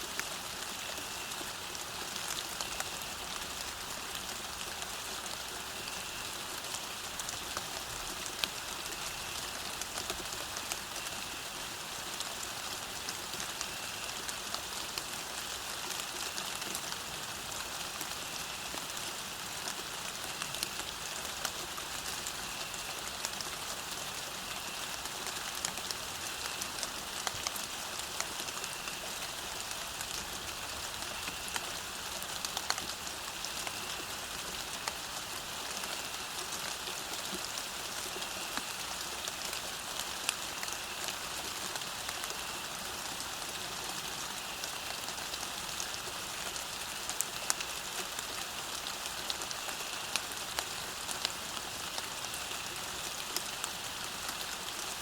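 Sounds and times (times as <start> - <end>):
rain falling on a path: 0.0 - 55.0.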